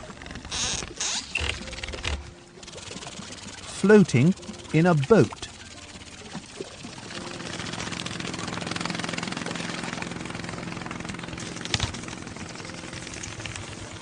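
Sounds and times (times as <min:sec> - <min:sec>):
motorboat engine chugging: 0:00.0 - 0:14.0.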